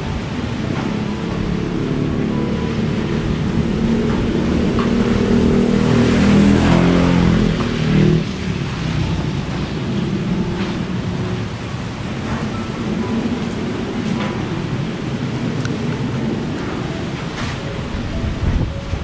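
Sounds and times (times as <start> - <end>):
strong wind rushing and buffeting: 0.0 - 19.0.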